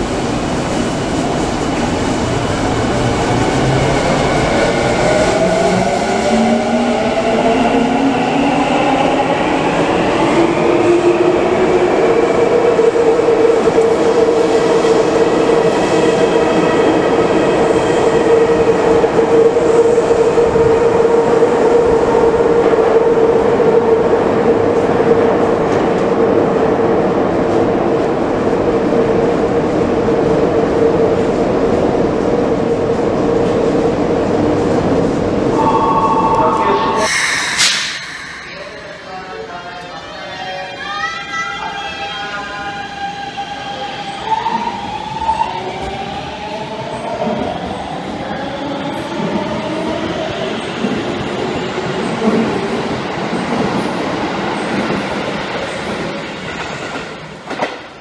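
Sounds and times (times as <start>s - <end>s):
train cars rumbling and clattering: 0.0s - 40.4s, 44.9s - 58.0s.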